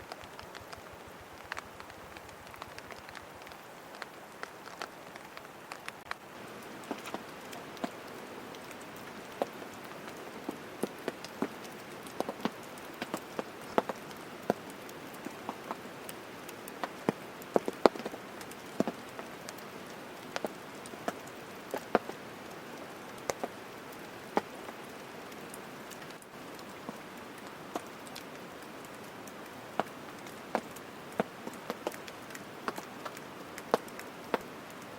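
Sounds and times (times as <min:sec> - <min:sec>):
rain hissing: 0:00.0 - 0:34.9
raindrops striking close by: 0:00.0 - 0:34.9.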